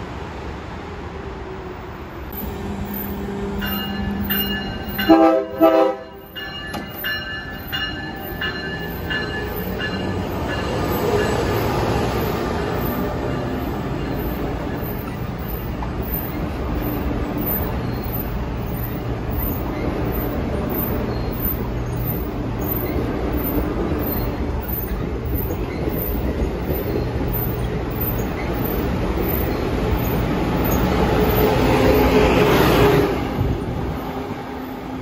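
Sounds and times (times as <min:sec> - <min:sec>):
train rolling past: 0:00.0 - 0:35.0.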